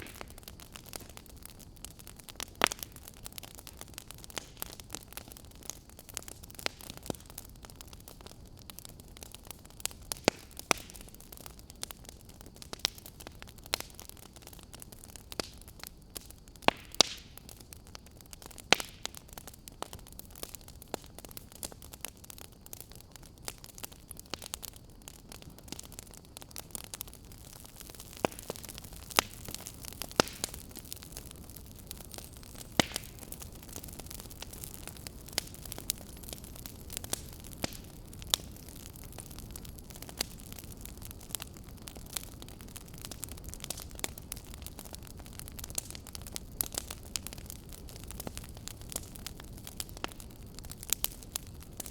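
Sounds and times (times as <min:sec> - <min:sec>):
steady low hiss: 0:00.0 - 0:51.9
wood fire crackling: 0:00.0 - 0:51.9.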